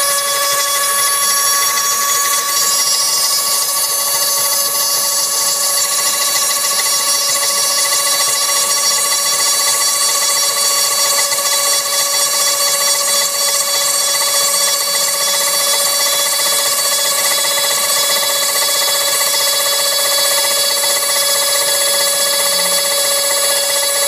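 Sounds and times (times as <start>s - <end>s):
router spindle whine: 0.0s - 24.0s.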